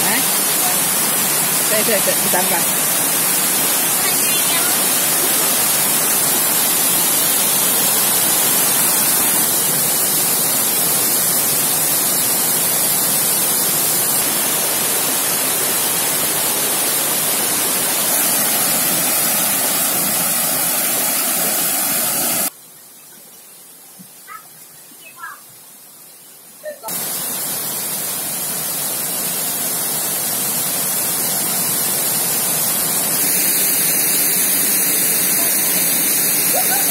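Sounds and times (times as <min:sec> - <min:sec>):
waterfall rushing into pool: 0:00.0 - 0:22.6, 0:26.6 - 0:36.9.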